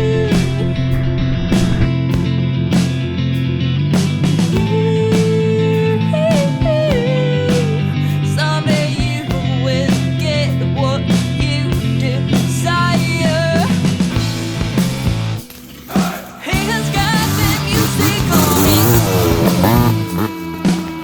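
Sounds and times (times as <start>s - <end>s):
guitar playing bent notes: 0.0s - 21.0s
rock music with steady beat: 0.0s - 21.0s.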